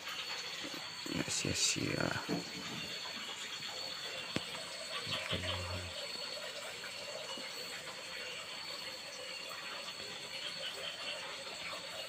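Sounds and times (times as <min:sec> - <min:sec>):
water rushing: 0:00.0 - 0:12.0
thin high tone: 0:00.6 - 0:10.4.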